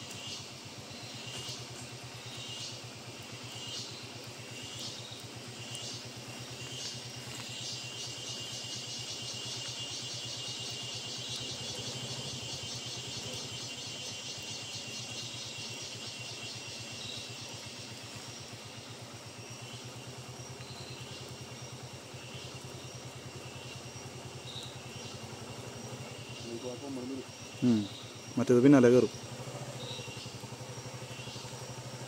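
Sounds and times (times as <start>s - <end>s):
engine idling: 0.0s - 32.0s
pulsing insect drone: 0.0s - 32.0s.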